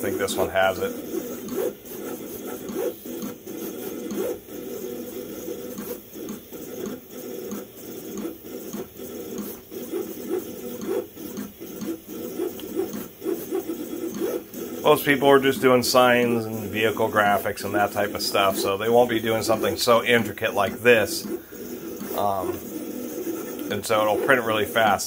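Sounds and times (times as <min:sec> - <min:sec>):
cutter plotter motors whirring: 0:00.0 - 0:25.0.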